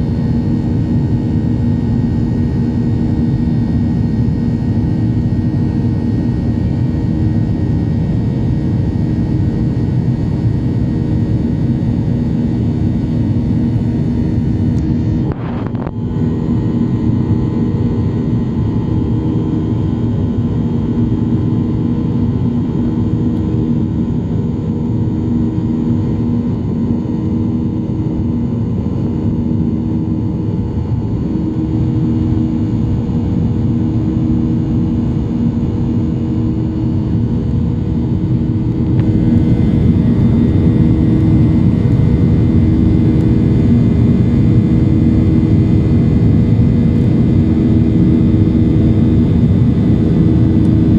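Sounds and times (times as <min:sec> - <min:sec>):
jet engine rumble: 0:00.0 - 0:50.9.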